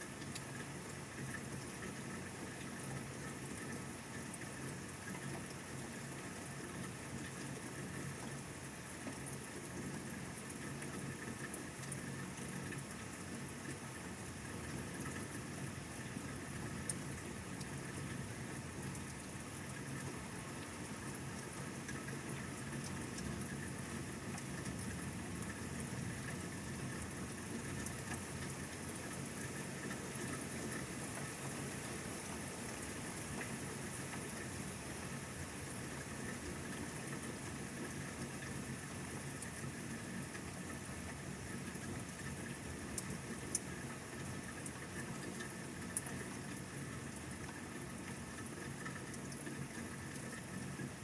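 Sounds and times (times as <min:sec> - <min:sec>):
steady rain falling: 0:00.0 - 0:51.0
raindrop ticks: 0:00.1 - 0:05.8, 0:09.0 - 0:31.8, 0:32.6 - 0:51.0.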